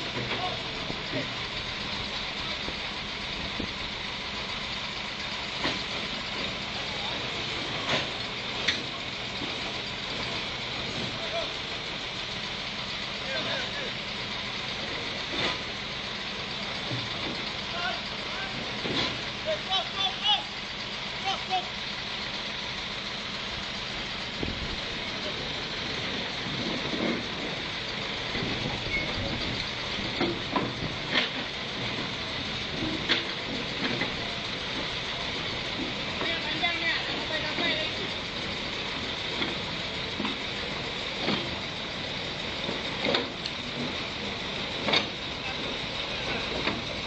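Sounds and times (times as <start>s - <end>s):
crane engine running: 0.0s - 47.0s.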